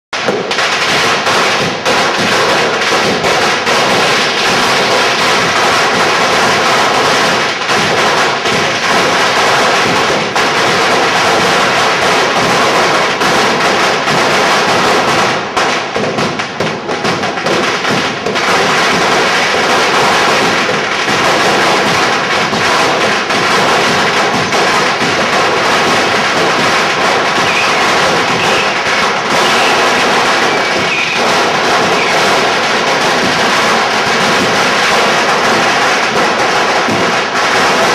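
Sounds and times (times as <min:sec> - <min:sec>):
firecrackers banging: 0:00.1 - 0:37.9.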